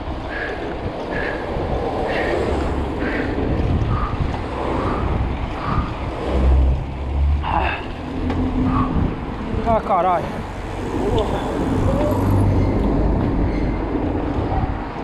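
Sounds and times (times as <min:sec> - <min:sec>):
bicycle tyre and road noise: 0:00.0 - 0:15.0
wind on microphone: 0:00.0 - 0:15.0.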